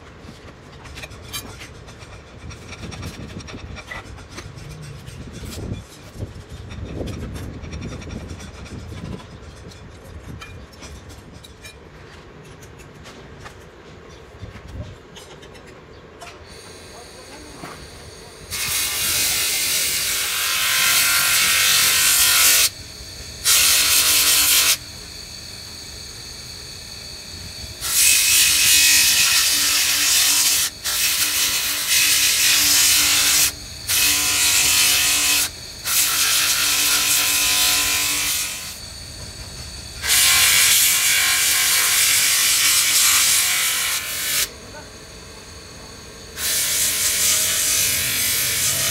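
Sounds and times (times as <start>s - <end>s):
grinding disc grinding metal gear: 1.0s - 11.8s, 16.5s - 48.9s.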